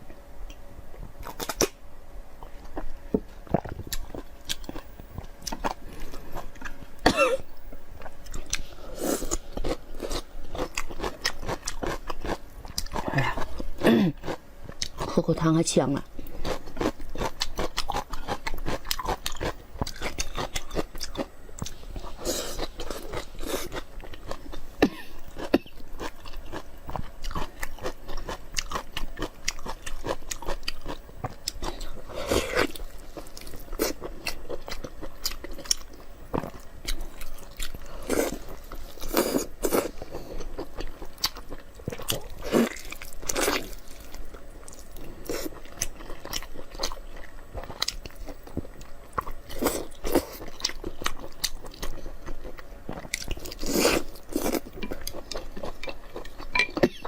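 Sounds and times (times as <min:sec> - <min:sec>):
person chewing food: 0:02.4 - 0:15.1, 0:16.2 - 0:57.0.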